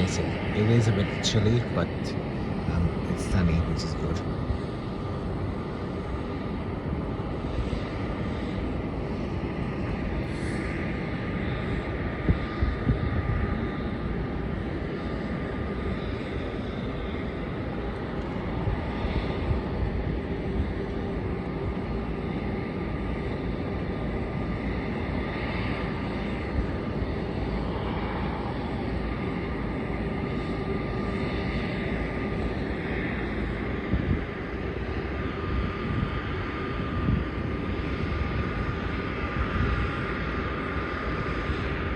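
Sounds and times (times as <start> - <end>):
distant jet engines rumbling: 0.0 - 41.9
thin steady engine whine: 0.0 - 41.9.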